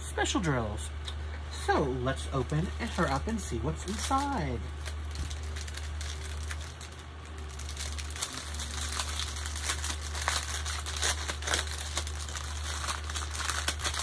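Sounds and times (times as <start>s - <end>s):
plastic bags crinkling: 2.2s - 14.0s.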